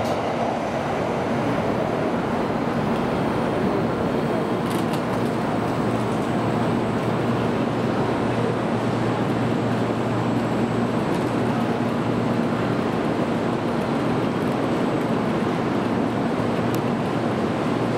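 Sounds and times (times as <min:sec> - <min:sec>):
standing train humming: 0:00.0 - 0:17.9
station ambience: 0:00.0 - 0:17.9.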